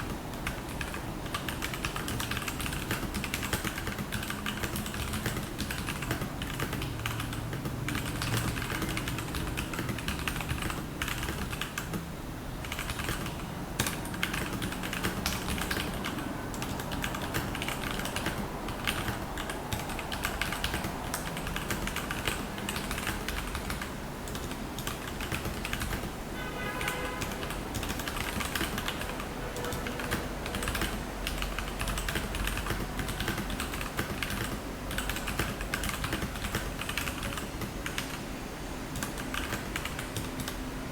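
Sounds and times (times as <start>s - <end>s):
mechanical keyboard typing: 0.0s - 12.0s, 12.6s - 26.2s, 26.8s - 38.2s, 38.9s - 40.6s.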